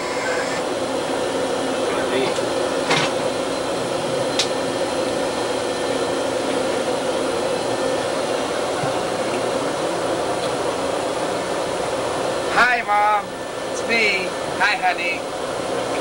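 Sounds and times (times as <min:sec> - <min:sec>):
ship engine room machinery hum: 0:00.0 - 0:16.0.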